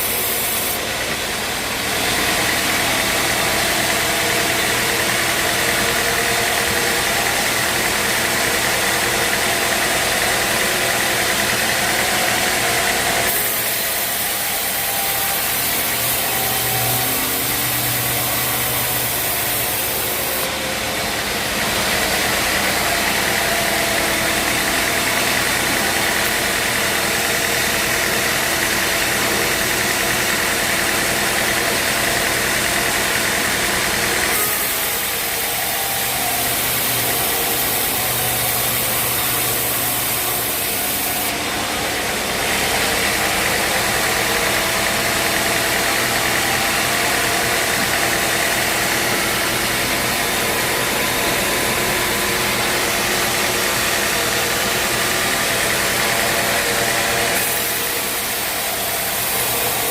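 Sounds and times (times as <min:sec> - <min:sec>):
band sawmill running: 0:00.0 - 0:59.9.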